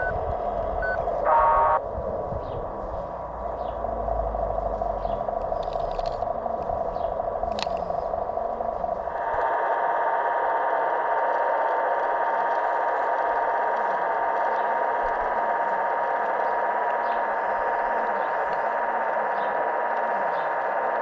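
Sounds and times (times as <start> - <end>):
low rumble: 0.0 - 20.7
electric model motors whining: 2.7 - 21.0.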